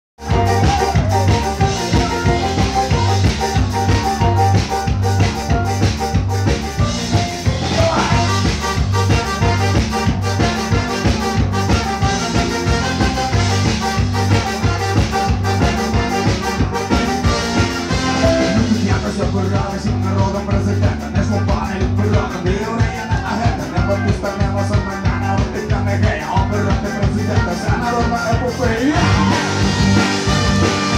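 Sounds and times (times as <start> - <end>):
live ska-punk band playing: 0.2 - 30.9.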